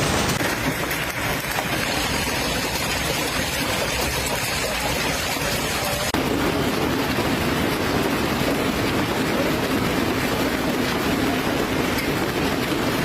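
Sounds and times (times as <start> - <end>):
hail and rain pelting: 0.0 - 13.0.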